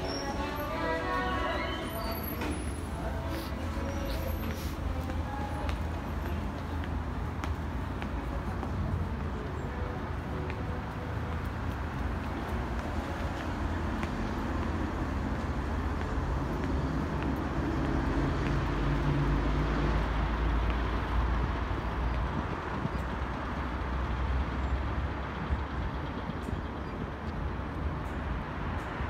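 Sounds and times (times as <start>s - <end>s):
large vehicle engine drone: 0.0s - 29.0s
road traffic noise: 0.0s - 29.0s.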